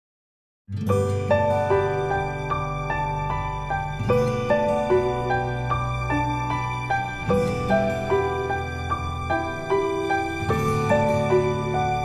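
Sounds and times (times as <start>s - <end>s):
slow soft melody: 0.7s - 12.0s
sustained bass: 0.9s - 12.0s.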